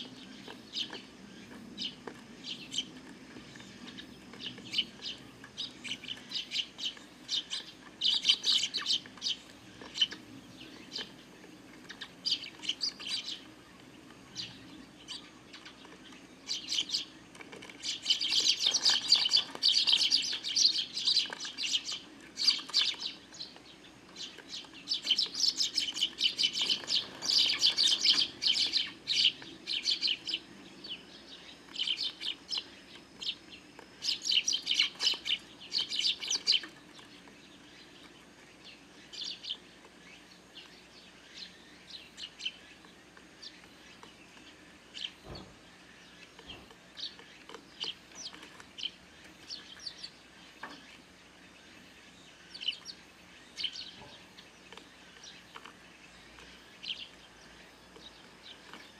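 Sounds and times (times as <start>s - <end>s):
sparrows chirping: 0.0s - 58.9s.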